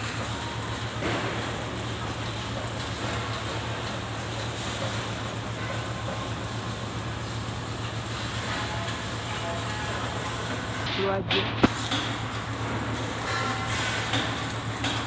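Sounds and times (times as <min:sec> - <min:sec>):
arc welding crackling hiss: 0:00.0 - 0:15.0
constant low hum: 0:00.0 - 0:15.0.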